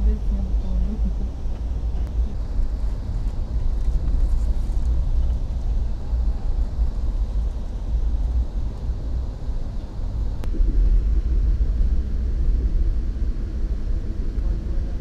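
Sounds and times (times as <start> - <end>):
vehicle rumble in motion: 0.0 - 15.0.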